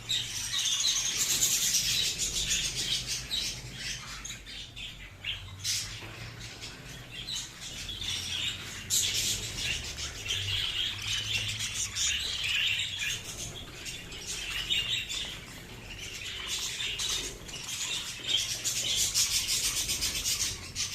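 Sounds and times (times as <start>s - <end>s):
budgerigars chirping: 0.0s - 20.9s.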